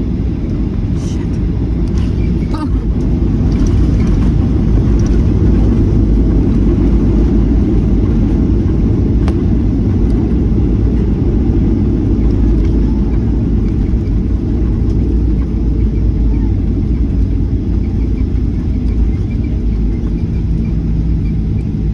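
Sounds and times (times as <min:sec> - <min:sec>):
jet airliner cabin rumble: 0:00.0 - 0:21.9.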